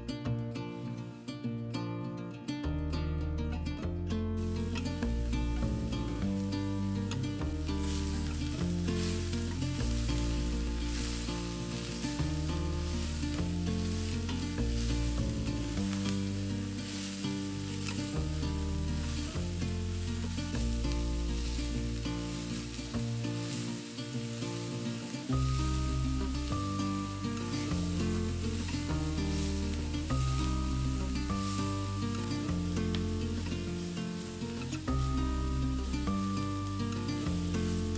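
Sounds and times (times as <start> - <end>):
background music with bass: 0.0 - 37.9
food sizzling in frying pan: 4.4 - 37.9.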